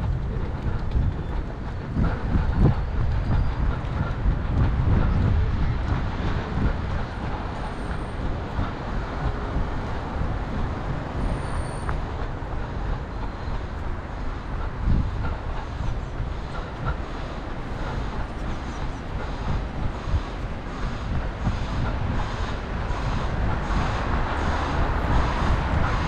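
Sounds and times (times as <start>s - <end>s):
road traffic rumble: 0.0s - 26.0s
wind rumble on microphone: 0.0s - 26.0s.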